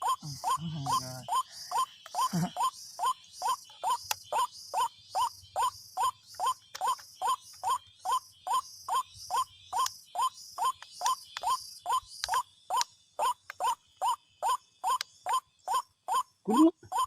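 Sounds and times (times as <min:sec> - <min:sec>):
high insect buzz: 0:00.0 - 0:17.0.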